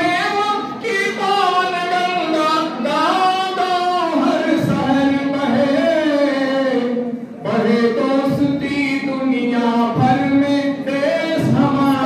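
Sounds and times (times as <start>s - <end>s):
man singing: 0.0s - 12.0s.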